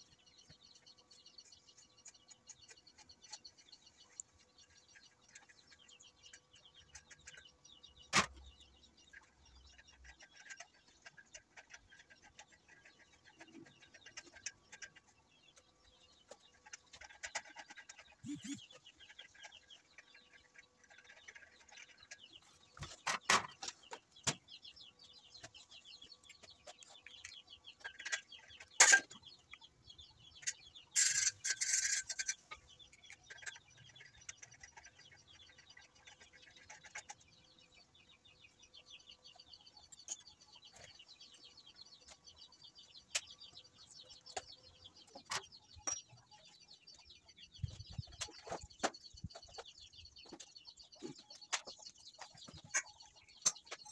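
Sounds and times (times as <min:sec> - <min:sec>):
birds clucking and chirping: 0:00.0 - 0:53.9.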